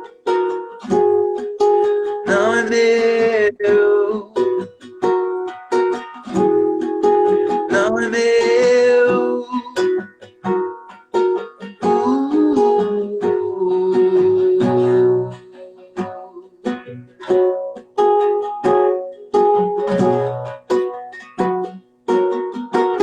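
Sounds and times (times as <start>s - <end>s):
guitar strummed chords: 0.0s - 23.0s.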